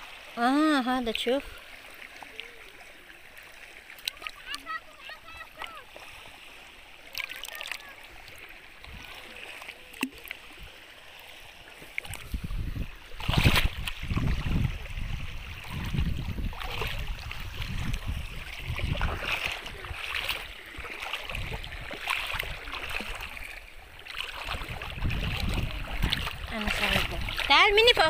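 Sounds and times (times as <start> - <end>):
seawater sloshing and splashing: 0.0 - 28.0.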